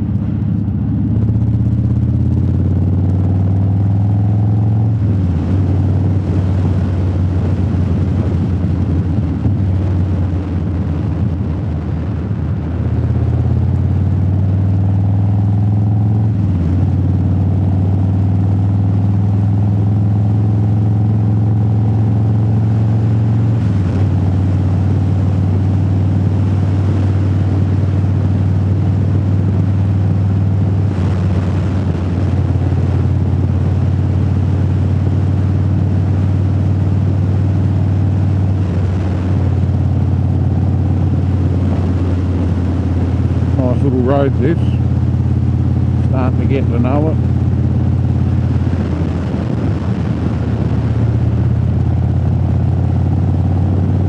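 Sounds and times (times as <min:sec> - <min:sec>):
wind noise: 0:00.0 - 0:18.6, 0:19.2 - 0:54.0
motorcycle engine running: 0:00.0 - 0:54.0.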